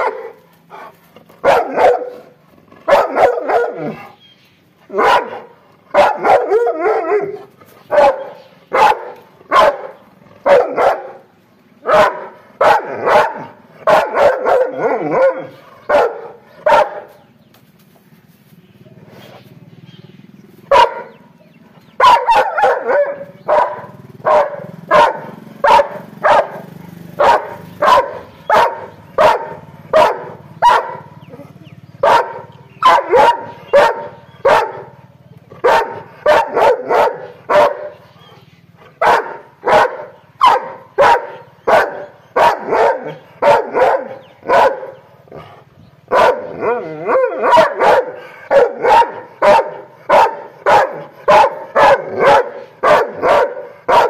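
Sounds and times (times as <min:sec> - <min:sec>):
large dog barking angrily: 0:00.0 - 0:04.2, 0:04.8 - 0:17.3, 0:20.6 - 0:54.0.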